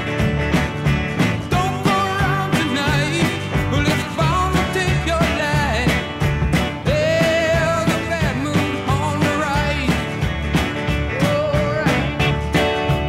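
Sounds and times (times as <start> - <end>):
background music with drum beat: 0.0 - 13.0.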